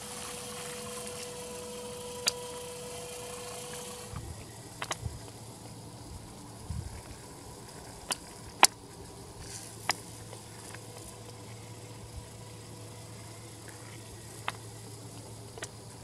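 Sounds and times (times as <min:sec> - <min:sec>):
faint low motor hum: 0:00.0 - 0:16.0.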